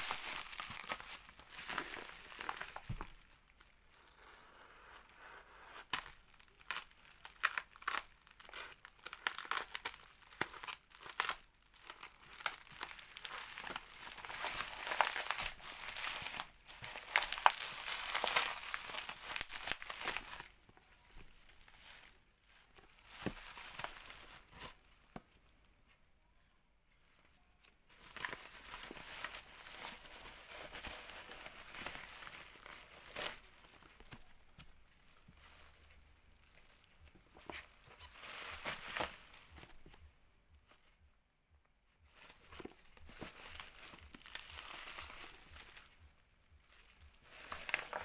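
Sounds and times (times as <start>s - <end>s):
packaging crinkling and tearing: 0.0s - 3.7s, 5.7s - 24.9s, 27.9s - 40.1s, 42.1s - 48.0s.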